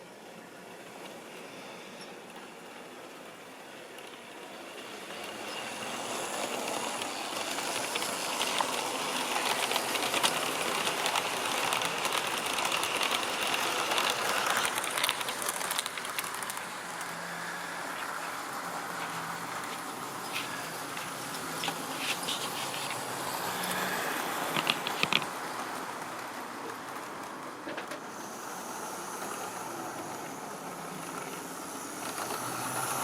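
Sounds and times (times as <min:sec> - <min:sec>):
model train whirring rattle: 0:00.2 - 0:33.0.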